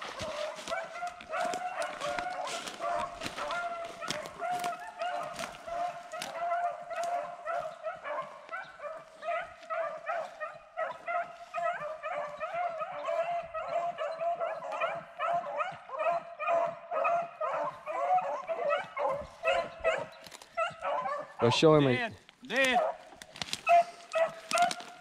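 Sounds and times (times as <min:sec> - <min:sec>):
hounds baying: 0:00.0 - 0:25.0.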